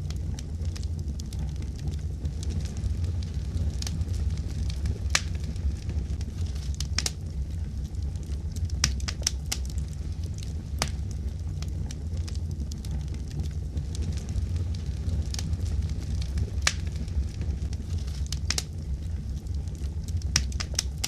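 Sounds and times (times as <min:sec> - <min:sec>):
fire crackling: 0:00.0 - 0:21.0
sharp pops of fire: 0:00.7 - 0:07.3, 0:08.2 - 0:18.8, 0:19.7 - 0:21.0.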